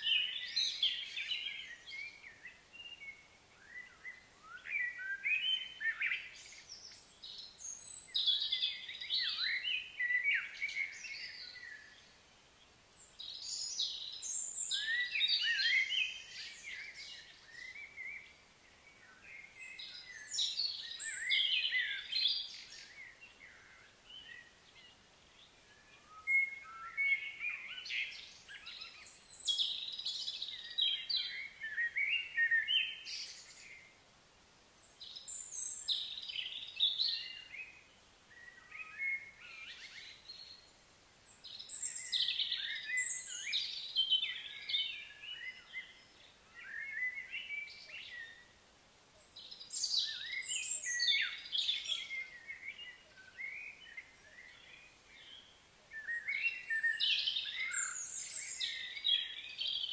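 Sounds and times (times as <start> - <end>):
birds chirping and singing: 0.0 - 12.2, 12.9 - 33.9, 34.8 - 48.6, 49.2 - 59.9.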